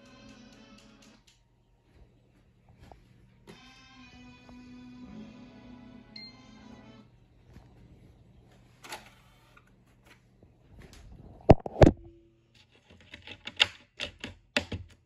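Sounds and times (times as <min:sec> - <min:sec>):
faint steady hum: 0:00.0 - 0:12.6.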